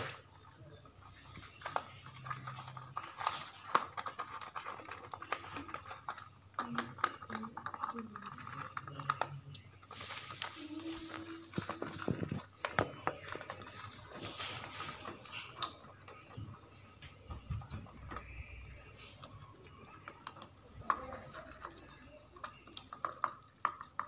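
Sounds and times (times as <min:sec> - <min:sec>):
animals crunching dry food: 0:00.0 - 0:24.0.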